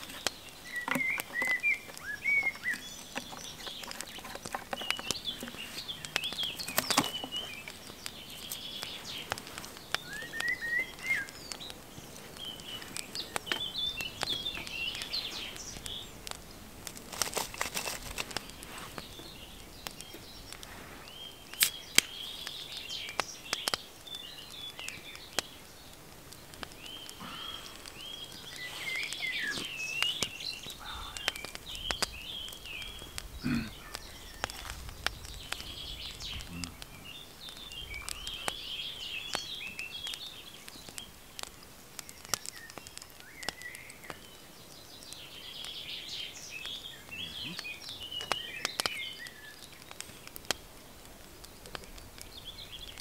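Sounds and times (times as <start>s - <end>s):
rustling: 0.0s - 23.9s, 24.7s - 43.6s
small birds chirping and trilling: 0.0s - 53.0s.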